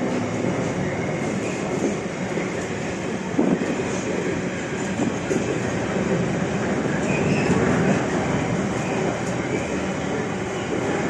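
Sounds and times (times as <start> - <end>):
freight train wheels on track: 0.0 - 11.0.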